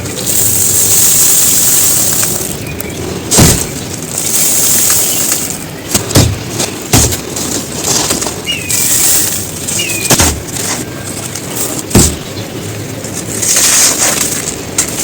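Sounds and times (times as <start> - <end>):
gritty crunching of crumbling material: 0.0 - 15.0.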